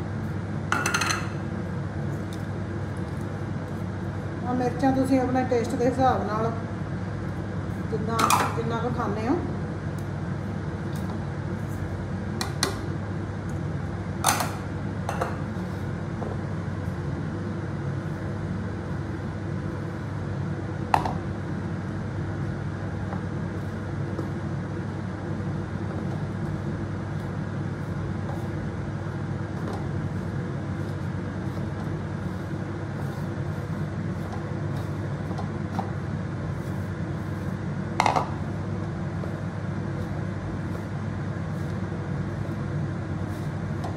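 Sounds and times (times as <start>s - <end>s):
low mechanical hum: 0.0s - 43.9s.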